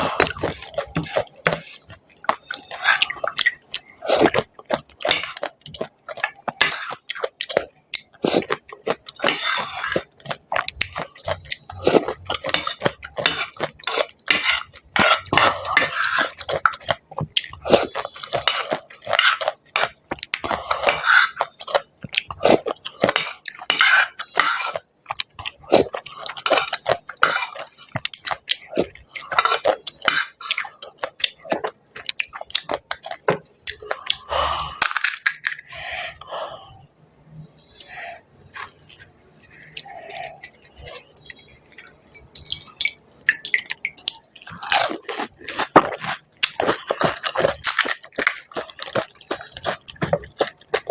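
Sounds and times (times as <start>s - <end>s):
crunching and chewing: 0.0s - 36.3s, 37.4s - 50.9s.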